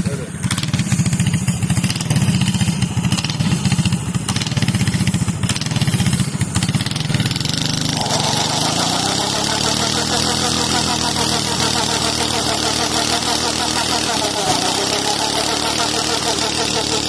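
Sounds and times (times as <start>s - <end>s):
mini bike engine running hard: 0.0s - 17.0s.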